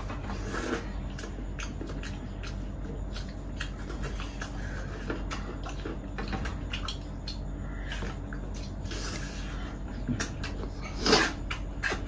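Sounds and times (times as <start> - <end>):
people chewing and slurping: 0.0 - 12.0.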